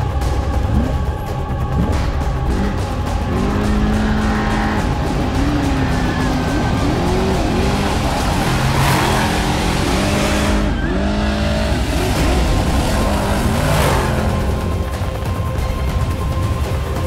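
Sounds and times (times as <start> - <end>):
background music: 0.0 - 17.0
truck engine revving hard: 0.6 - 15.6.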